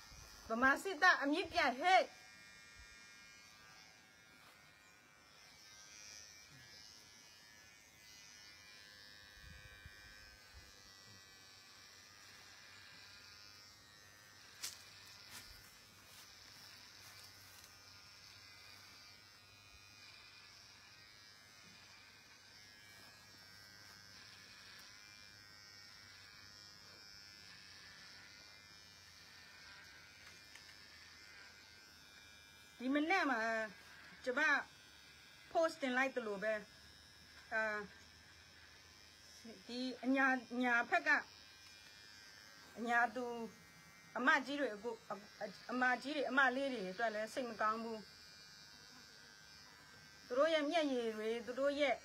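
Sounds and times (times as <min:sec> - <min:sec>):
electric hair clippers buzzing: 0:00.0 - 0:52.0.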